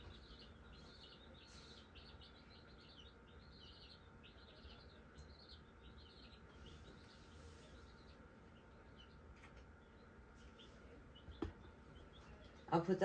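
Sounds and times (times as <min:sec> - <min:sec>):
faint high bird chirps: 0:00.0 - 0:12.8
faint steady hum: 0:00.0 - 0:13.0.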